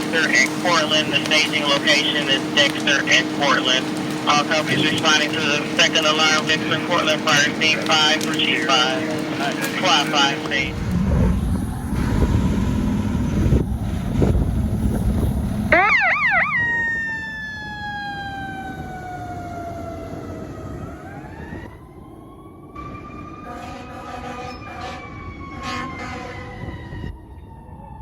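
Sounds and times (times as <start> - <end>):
siren yelp: 0.0 - 10.8, 15.7 - 28.0
siren wail: 0.0 - 13.2, 15.7 - 28.0
heavy engine and road rumble: 0.0 - 28.0.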